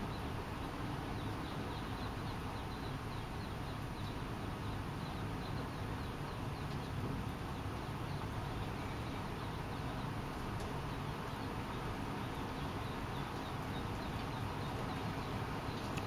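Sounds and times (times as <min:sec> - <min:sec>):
duckling peeping: 0:00.0 - 0:16.0
steady background hiss: 0:00.0 - 0:16.0.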